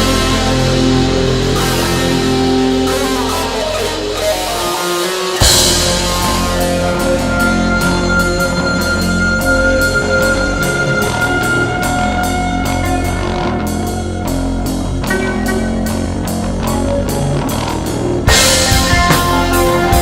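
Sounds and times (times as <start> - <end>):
drum kit beat: 0.0 - 20.0
rock band playing: 0.0 - 20.0.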